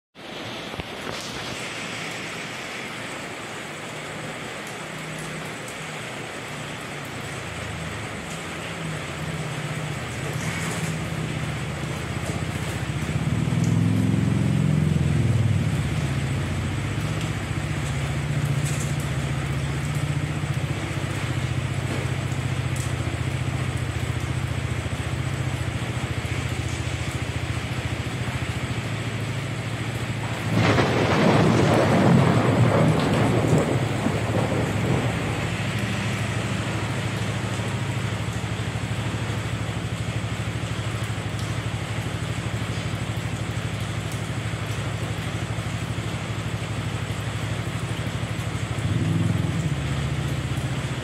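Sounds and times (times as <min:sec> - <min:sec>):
steady rain falling: 0:00.2 - 0:51.0.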